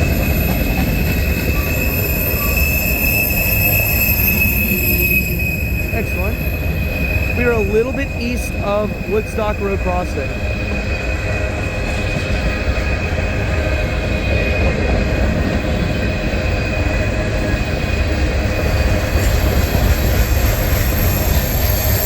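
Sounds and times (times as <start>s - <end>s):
higher wheel squeal: 0.0s - 22.0s
train wheels rumbling on rail: 0.0s - 22.0s
wheels squealing against rail: 0.0s - 22.0s.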